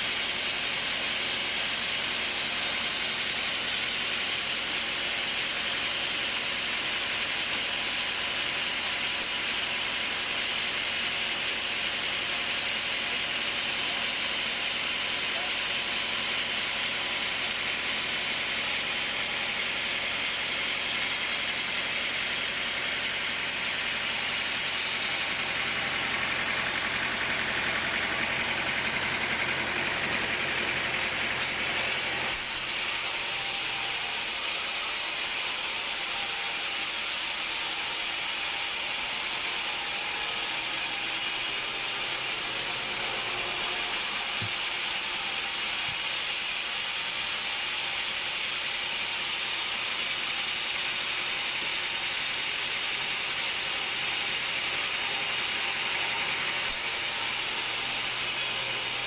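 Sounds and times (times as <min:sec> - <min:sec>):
sawmill machinery hissing: 0:00.0 - 0:59.0.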